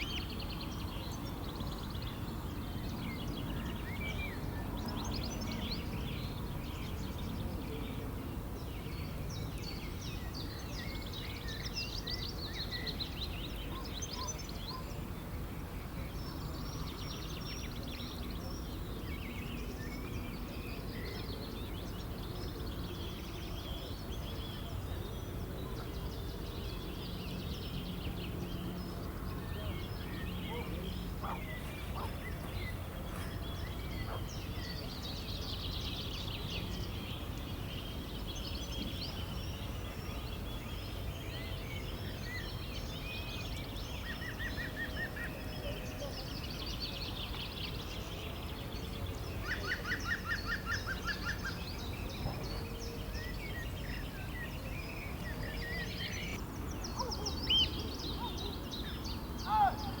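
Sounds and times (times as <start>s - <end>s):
songbirds singing and trilling: 0.0s - 60.0s.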